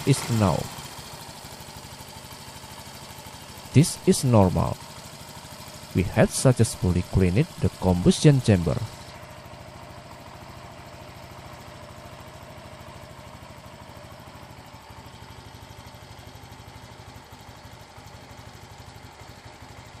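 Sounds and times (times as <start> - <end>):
scooter engine idling: 0.0 - 20.0.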